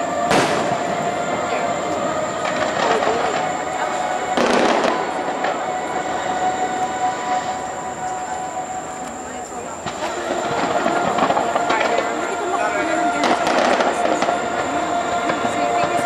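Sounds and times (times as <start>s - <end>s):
distant fireworks crackling: 0.0s - 16.0s.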